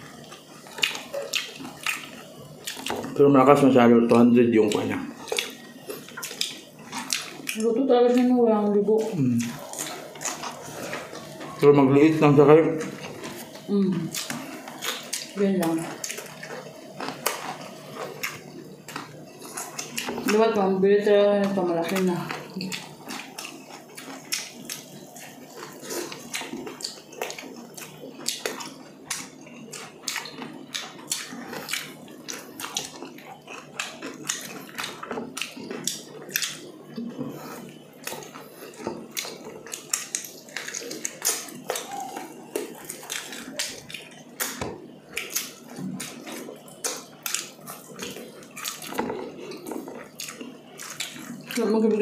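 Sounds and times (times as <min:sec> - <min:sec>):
people chewing and lip-smacking: 0:00.0 - 0:52.0.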